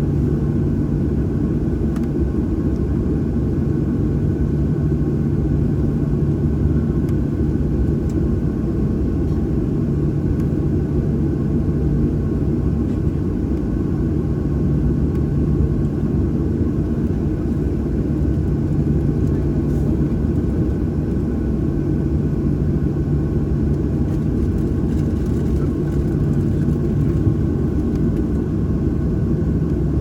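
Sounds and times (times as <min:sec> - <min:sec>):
jet engine cabin drone: 0:00.0 - 0:30.0.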